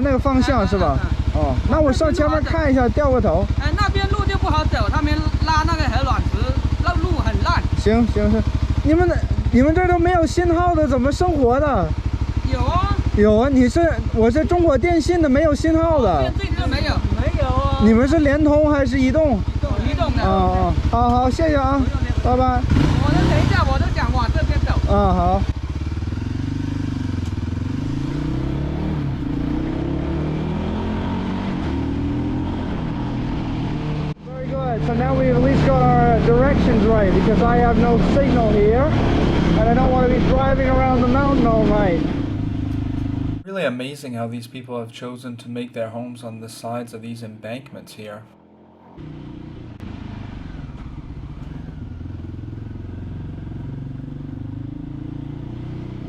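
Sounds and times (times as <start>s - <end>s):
dirt bike engine accelerating: 0.0s - 43.4s, 48.4s - 56.0s.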